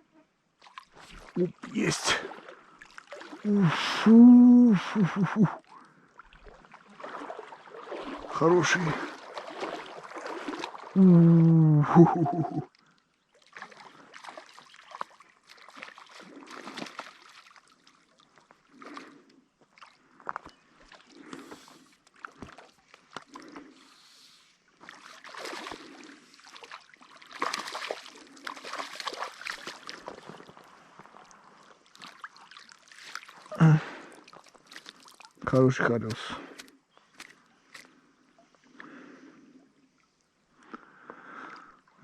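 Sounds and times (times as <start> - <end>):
river water sloshing and splashing: 0.5 - 4.1, 5.6 - 11.2, 11.9 - 40.6.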